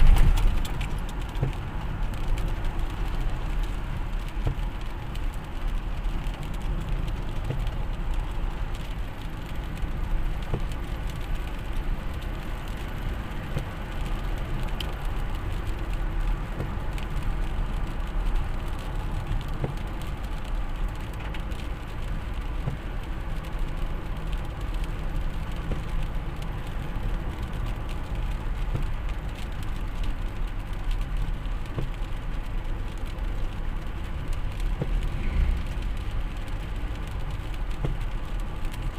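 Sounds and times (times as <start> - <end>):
vehicle road and engine rumble: 0.0 - 38.9.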